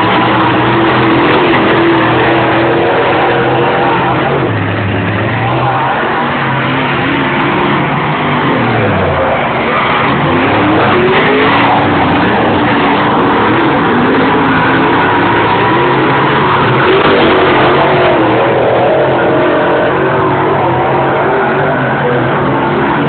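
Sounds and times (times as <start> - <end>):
race car engines running hard: 0.0 - 23.0.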